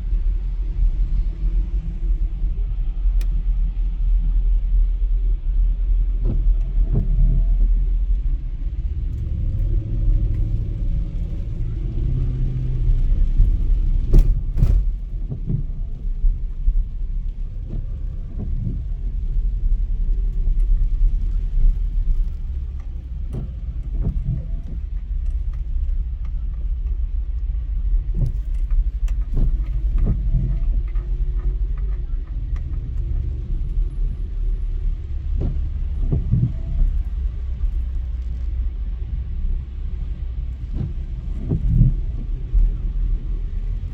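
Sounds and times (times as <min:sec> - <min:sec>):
car driving on road: 0:00.0 - 0:43.9.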